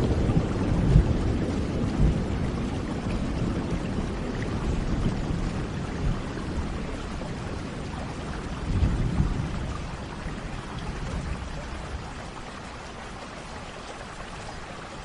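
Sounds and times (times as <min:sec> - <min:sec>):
low rumble of thunder: 0:00.0 - 0:15.0
steady rain: 0:00.0 - 0:15.0.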